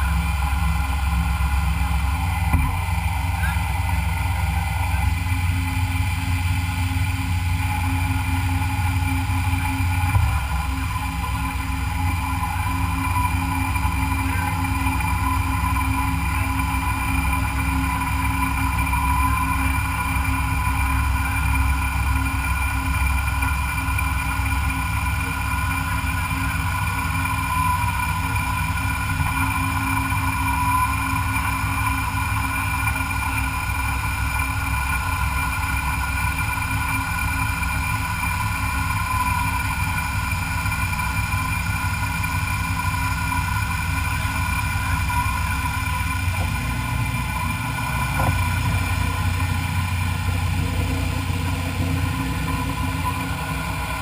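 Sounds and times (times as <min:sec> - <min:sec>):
low motor hum: 0:00.0 - 0:54.0
milling machine whine: 0:00.0 - 0:54.0.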